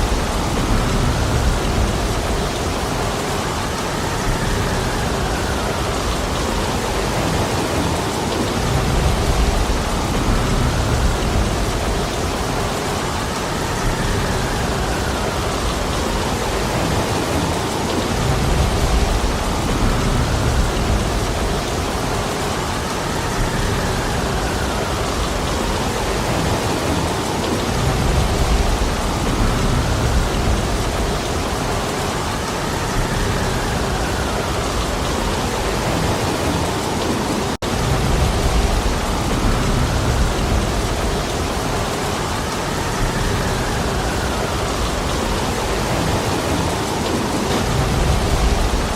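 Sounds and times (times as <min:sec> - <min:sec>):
heavy rain hissing: 0:00.0 - 0:48.9.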